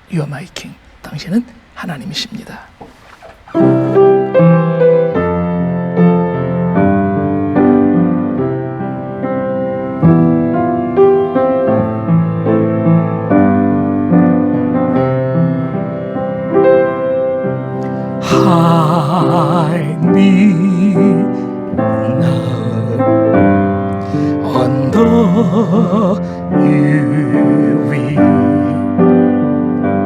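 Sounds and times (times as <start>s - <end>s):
slow gentle piano: 0.0s - 30.0s.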